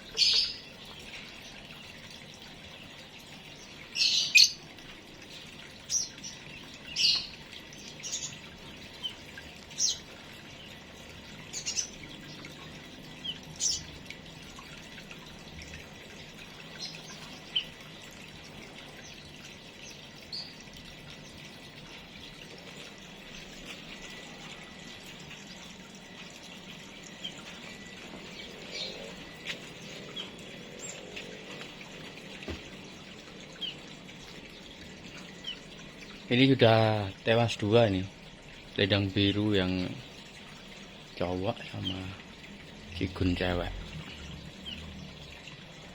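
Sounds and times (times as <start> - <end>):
small birds chirping: 0.0 - 14.7, 18.7 - 22.0, 26.2 - 45.8.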